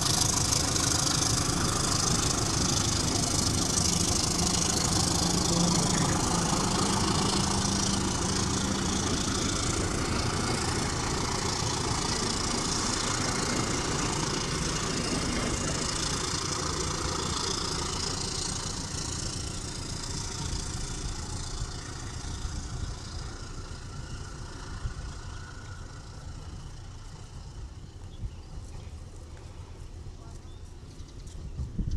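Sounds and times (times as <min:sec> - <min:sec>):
diesel locomotive engine drone: 0:00.0 - 0:31.9
train rolling noise: 0:00.0 - 0:31.9.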